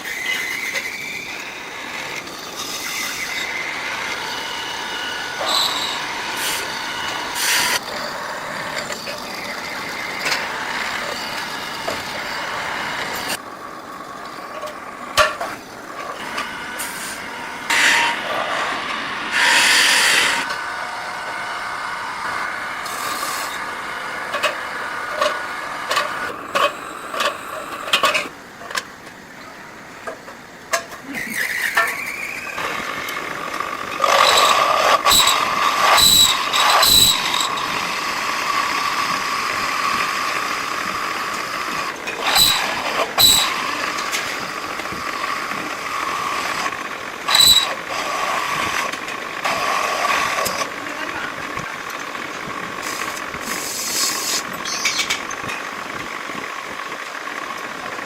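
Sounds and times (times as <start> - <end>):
workshop machinery whining: 0.0 - 58.0.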